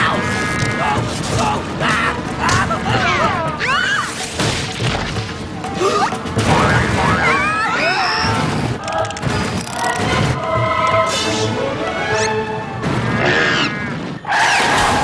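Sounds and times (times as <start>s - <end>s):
cartoon action music: 0.0s - 15.0s.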